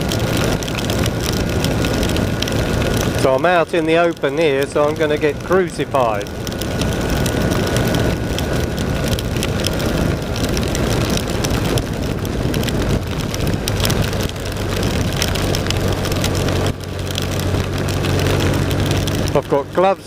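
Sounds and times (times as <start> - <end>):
wind rush: 0.0 - 3.4, 4.6 - 19.4
heavy rain on microphone: 0.0 - 20.0
motorcycle engine running: 0.0 - 20.0.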